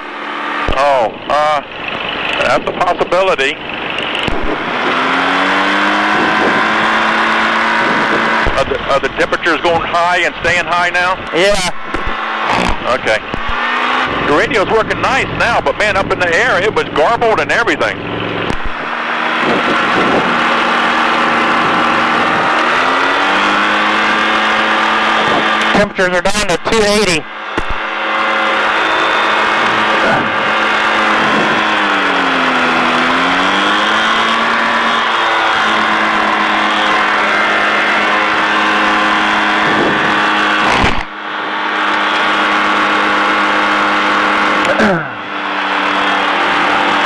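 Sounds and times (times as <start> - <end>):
ultralight engine and propeller: 0.0 - 47.0.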